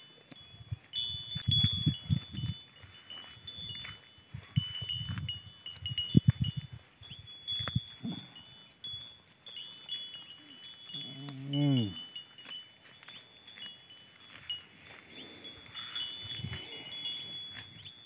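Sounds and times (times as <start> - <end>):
high ringing chime: 0.0 - 18.0.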